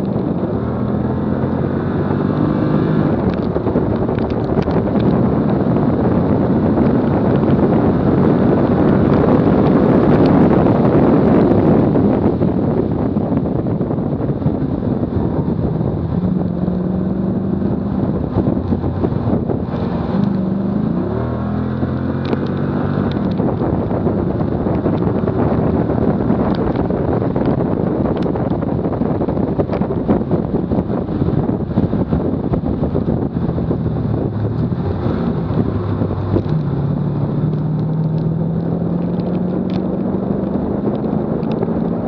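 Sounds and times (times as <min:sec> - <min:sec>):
car engine downshifting: 0:00.0 - 0:42.0
heavy wind rush: 0:00.0 - 0:42.0.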